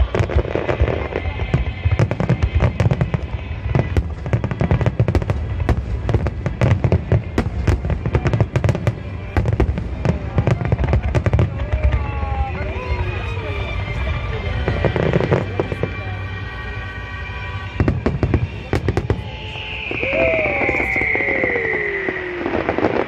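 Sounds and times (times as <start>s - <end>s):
fireworks bangs and crackle: 0.0s - 23.0s.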